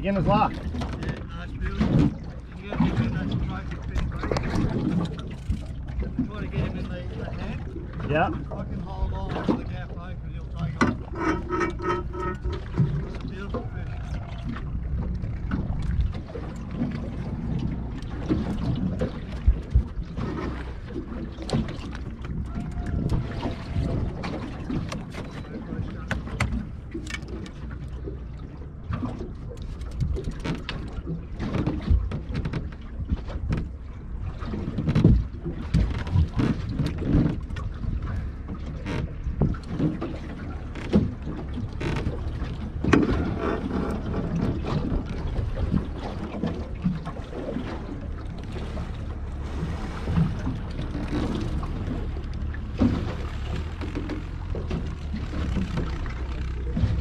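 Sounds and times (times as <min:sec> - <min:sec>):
water noise: 0:00.0 - 0:57.0
wind buffeting microphone: 0:00.0 - 0:57.0
knocks against boat: 0:10.5 - 0:33.8, 0:34.4 - 0:57.0.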